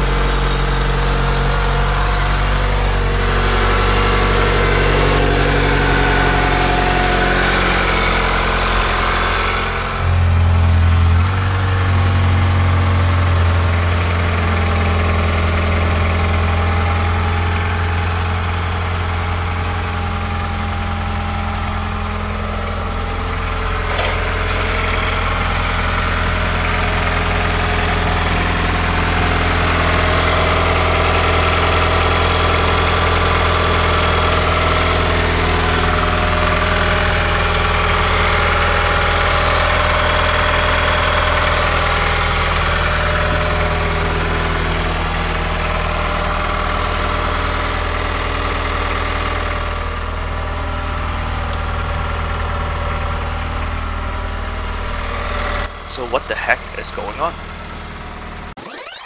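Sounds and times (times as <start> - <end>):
car engine idling: 0.0 - 58.5.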